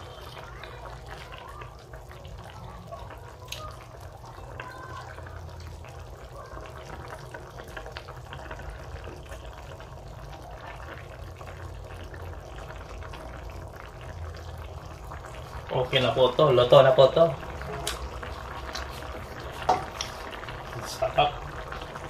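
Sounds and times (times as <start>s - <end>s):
sauce sloshing and bubbling: 0.0s - 22.0s.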